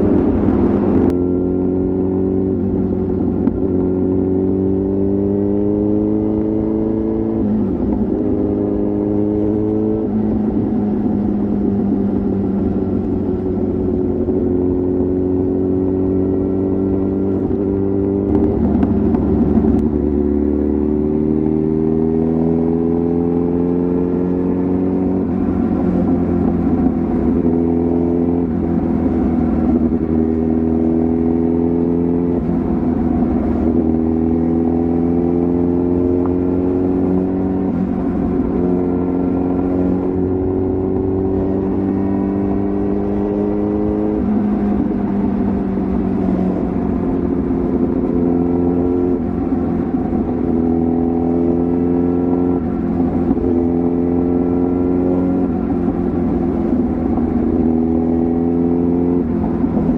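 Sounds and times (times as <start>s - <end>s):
motorcycle engine shifting gears: 0.0s - 59.9s.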